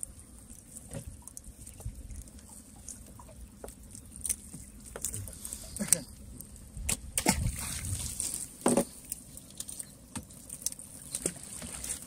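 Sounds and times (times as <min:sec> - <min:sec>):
water sloshing and dripping: 0:00.0 - 0:12.0.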